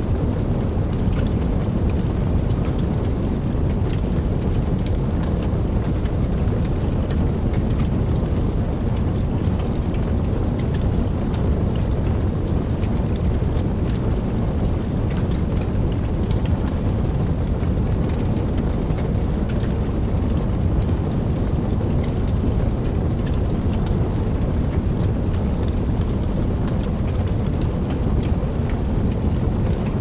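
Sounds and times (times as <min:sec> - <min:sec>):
campfire flames rumbling: 0:00.0 - 0:30.0
fire crackles and pops: 0:00.0 - 0:30.0.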